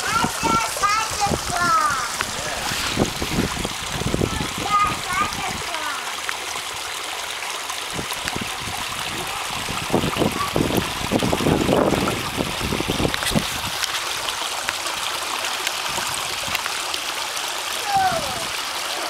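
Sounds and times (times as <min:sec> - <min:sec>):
waterfall splashing into pond: 0:00.0 - 0:19.0.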